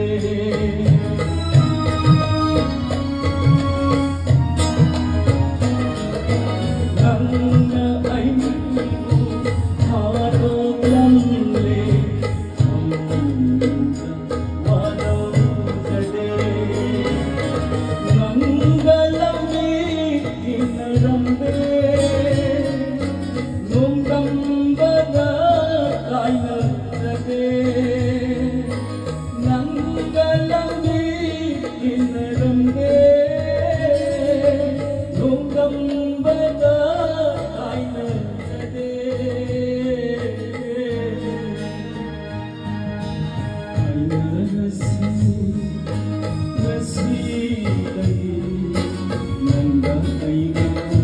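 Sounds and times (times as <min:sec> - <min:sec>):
instrumental accompaniment: 0:00.0 - 0:51.0
person singing: 0:00.0 - 0:51.0.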